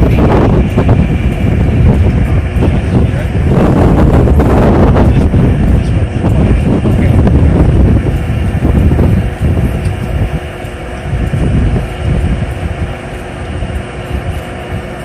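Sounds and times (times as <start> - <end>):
distant rocket engine rumble: 0.0 - 15.0.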